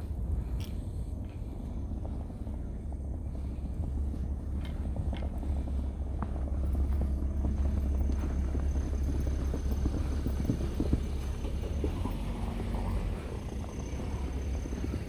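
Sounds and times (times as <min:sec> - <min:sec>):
steady low rumble: 0:00.0 - 0:15.0
footsteps crunching in snow: 0:02.2 - 0:15.0.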